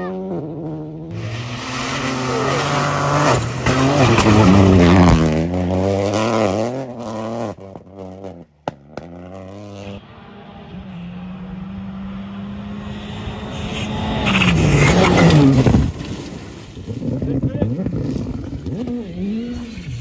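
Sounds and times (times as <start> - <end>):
distant rally car engine: 0.0 - 20.0
rally car engine at high revs: 0.0 - 20.0.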